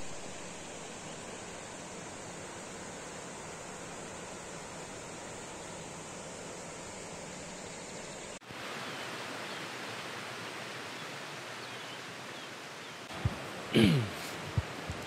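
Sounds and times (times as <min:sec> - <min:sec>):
distant waterfall rushing: 0:00.0 - 0:15.0.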